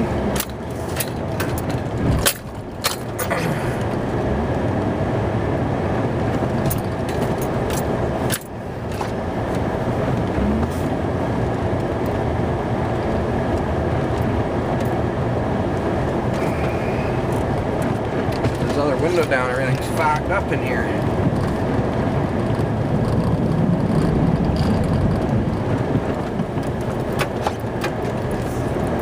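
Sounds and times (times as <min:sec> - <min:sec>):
pickup truck engine rumbling: 0:00.0 - 0:29.0.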